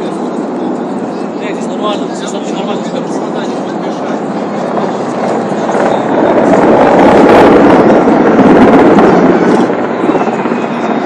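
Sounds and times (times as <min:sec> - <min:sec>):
military aircraft flying overhead: 0:00.0 - 0:11.0.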